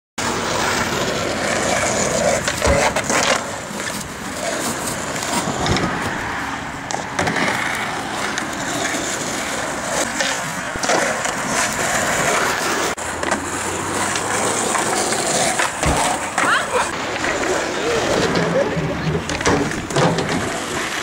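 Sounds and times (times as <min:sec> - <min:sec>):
skateboard clacks and knocks: 0:00.2 - 0:21.0
skateboard wheels rolling on concrete: 0:00.2 - 0:21.0.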